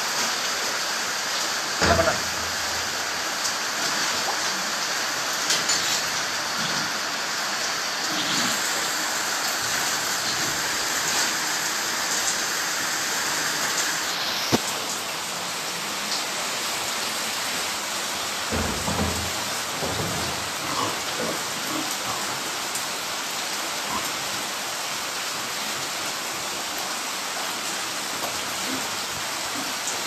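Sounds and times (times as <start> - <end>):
heavy rain on corrugated roof: 0.0 - 30.0.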